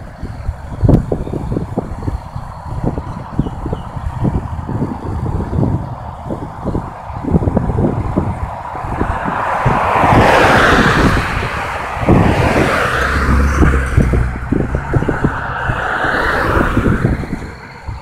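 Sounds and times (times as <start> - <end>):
cars passing: 0.0 - 18.0
low buffeting: 0.0 - 18.0.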